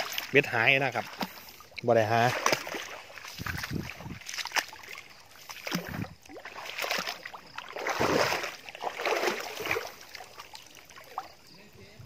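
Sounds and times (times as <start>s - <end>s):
creek water sloshing and splashing: 0.0s - 11.9s.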